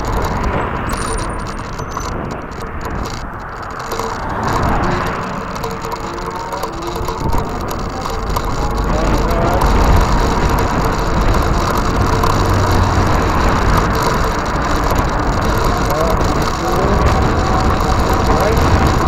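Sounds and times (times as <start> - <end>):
freewheel ratcheting clicks: 0.0 - 19.0
wind rumble on microphone: 0.0 - 19.0.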